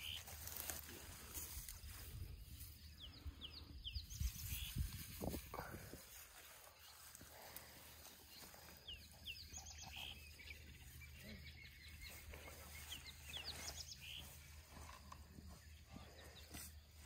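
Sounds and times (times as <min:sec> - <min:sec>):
grass rustling: 0:00.0 - 0:17.0
faint bird chirps: 0:01.8 - 0:17.0.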